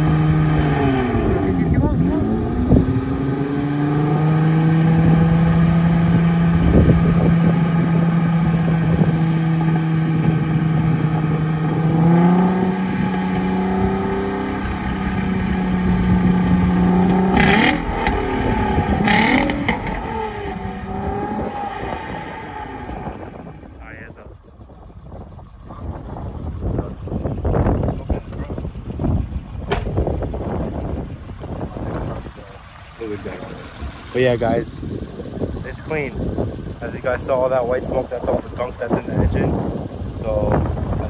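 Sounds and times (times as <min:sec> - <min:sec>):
car engine running: 0:00.0 - 0:41.0.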